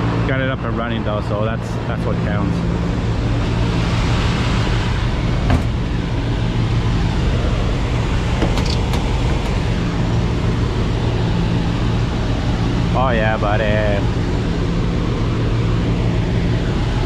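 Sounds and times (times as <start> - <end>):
air conditioning unit humming: 0.0 - 17.0.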